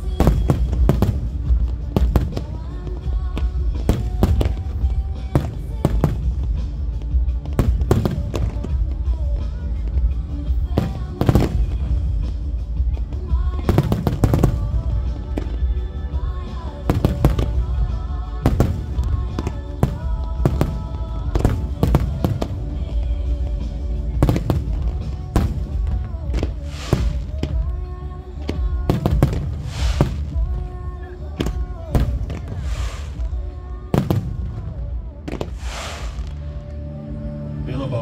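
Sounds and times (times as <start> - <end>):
fireworks bangs: 0.0 - 12.6, 13.3 - 15.7, 16.4 - 36.6
fireworks hissing: 0.0 - 36.6
loud music soundtrack: 0.0 - 38.0.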